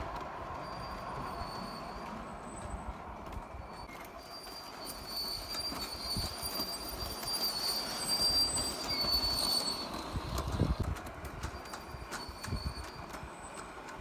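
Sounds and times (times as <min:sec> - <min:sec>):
model train rolling rumble: 0:00.0 - 0:14.0.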